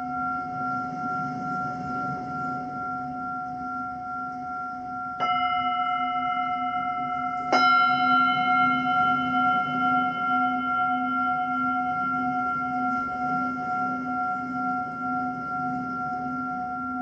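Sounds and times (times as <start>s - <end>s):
low pulsing hum: 0.0s - 17.0s
singing bowls ringing: 0.0s - 17.0s.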